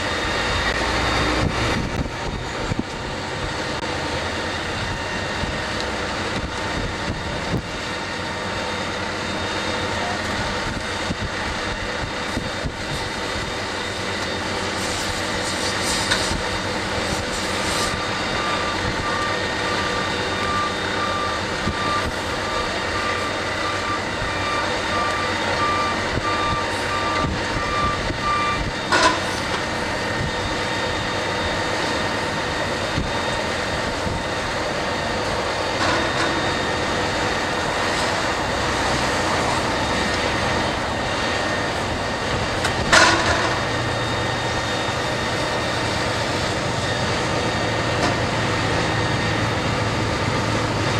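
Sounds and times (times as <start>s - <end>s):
fire engines running: 0.0s - 50.9s
reversing alarm beeping: 0.0s - 50.9s.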